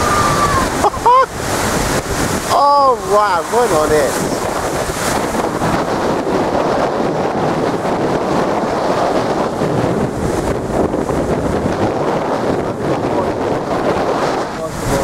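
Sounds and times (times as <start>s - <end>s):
storm waves breaking on sea wall: 0.0s - 15.0s
wind buffeting microphone: 0.0s - 15.0s.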